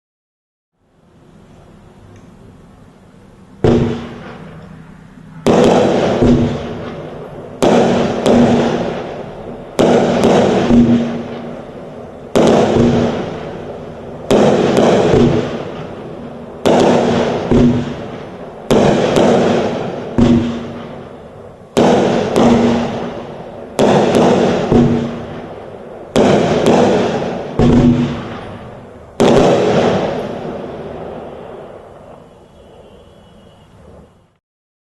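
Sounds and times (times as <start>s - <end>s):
faint firework hiss: 1.2s - 34.4s
loud firework bangs: 3.6s - 34.2s.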